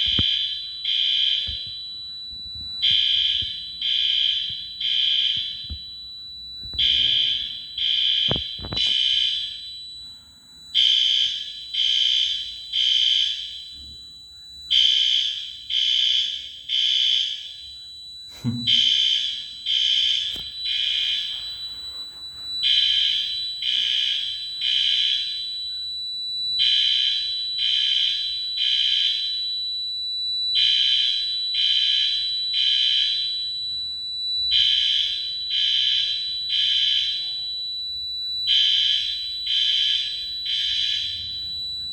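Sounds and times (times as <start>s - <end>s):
fire alarm horn beeps: 0.0s - 41.9s.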